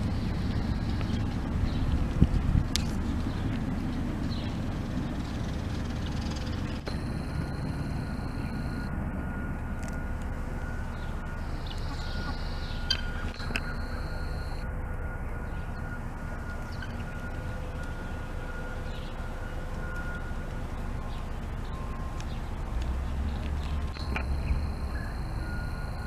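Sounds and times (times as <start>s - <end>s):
faint steady hum: 0.0s - 26.0s
low outdoor rumble: 0.0s - 26.0s.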